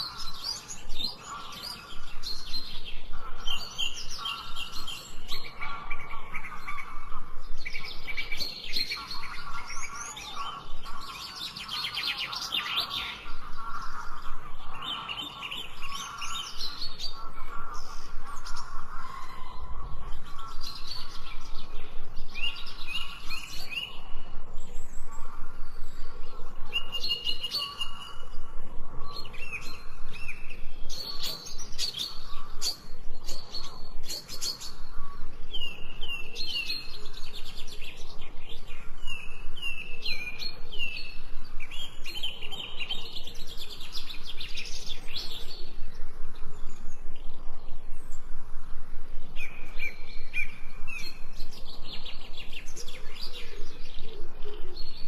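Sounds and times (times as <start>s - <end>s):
birds singing and chirping: 0.0s - 55.0s
lower bird calls: 0.0s - 55.0s.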